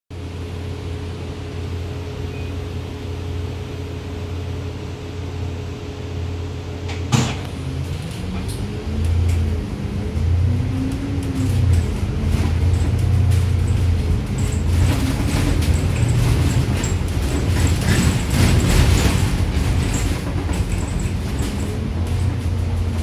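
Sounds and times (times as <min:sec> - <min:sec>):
bus engine: 0:00.1 - 0:23.0.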